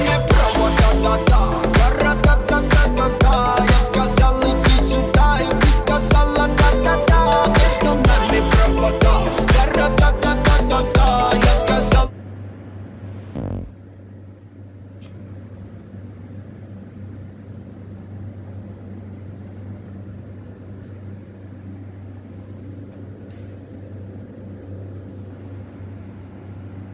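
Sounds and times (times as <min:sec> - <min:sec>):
kitchen machinery electrical hum: 0:00.0 - 0:26.9.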